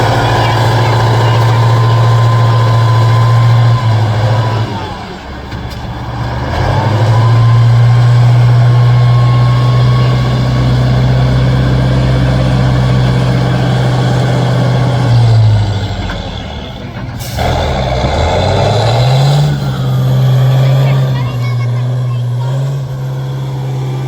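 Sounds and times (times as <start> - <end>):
truck engine running hard: 0.0 - 24.0.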